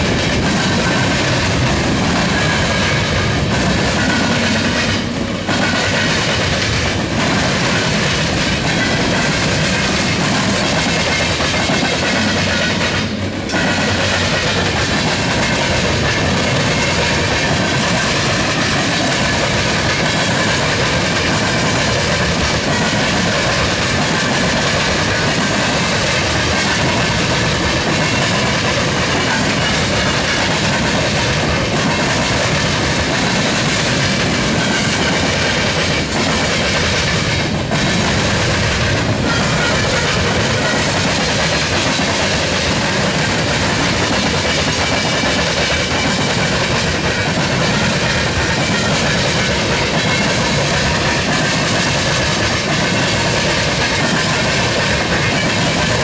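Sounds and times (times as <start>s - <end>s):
steel wheels rolling on rail: 0.0s - 56.0s.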